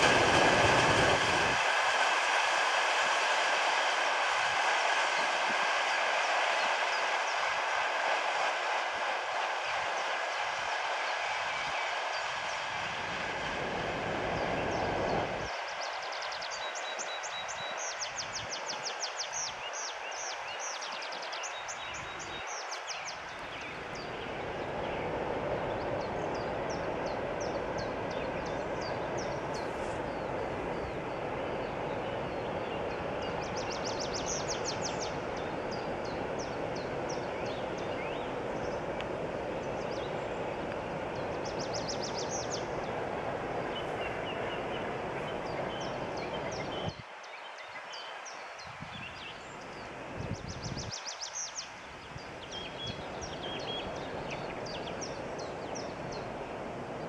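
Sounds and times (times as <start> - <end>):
train wheels rumbling on rails: 0.0 - 47.2.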